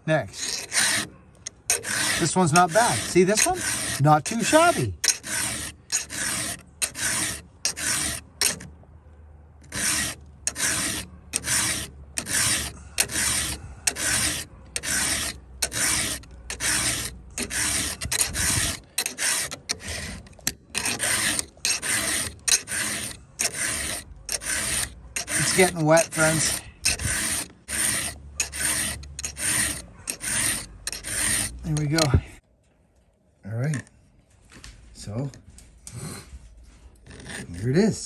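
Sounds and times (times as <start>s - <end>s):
file rasping on chain: 0.1s - 8.8s, 9.6s - 32.4s, 37.0s - 38.0s.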